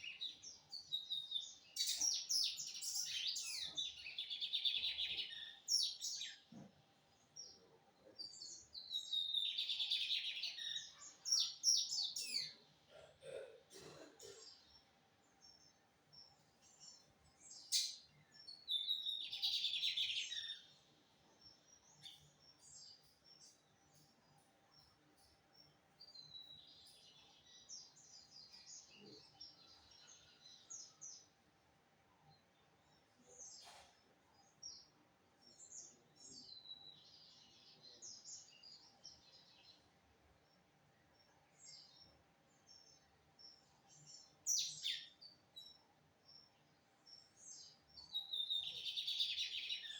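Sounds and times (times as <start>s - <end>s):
bird twittering song: 0.0s - 12.8s, 14.2s - 31.5s, 32.3s - 49.9s.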